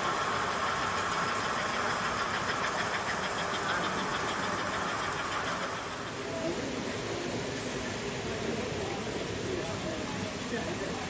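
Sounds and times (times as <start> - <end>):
model train running: 0.0 - 11.0.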